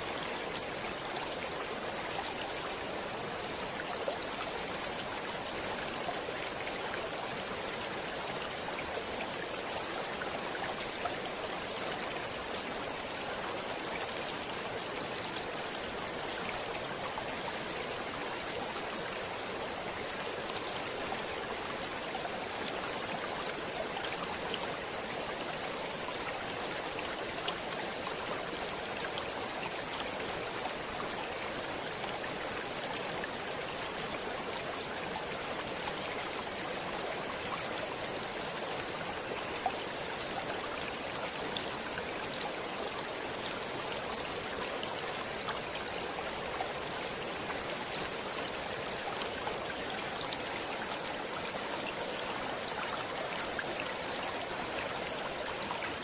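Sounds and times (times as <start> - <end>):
stream water flowing and splashing: 0.0 - 56.0.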